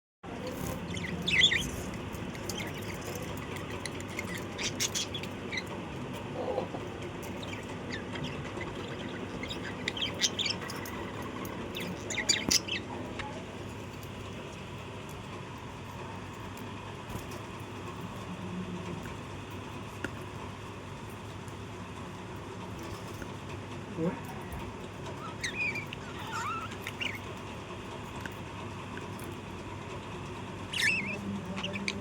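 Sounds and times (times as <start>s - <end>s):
small birds chirping: 0.3s - 32.0s.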